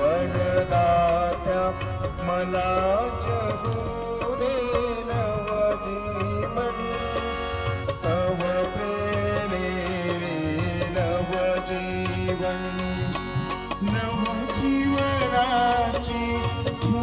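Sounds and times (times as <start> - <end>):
keyboard hymn melody: 0.0 - 17.0
tabla and drum rhythm: 0.0 - 17.0.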